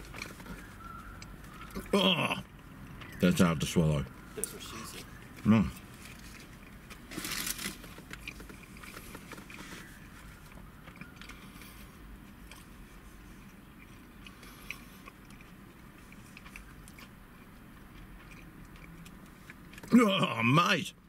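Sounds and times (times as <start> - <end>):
chewing doughy food: 0.0 - 3.2, 4.1 - 20.4.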